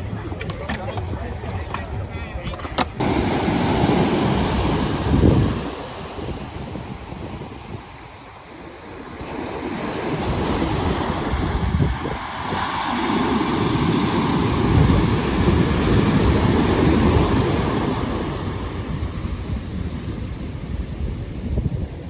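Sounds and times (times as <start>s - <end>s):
wind buffeting microphone: 0.0s - 22.0s
ocean surf washing up: 3.0s - 22.0s.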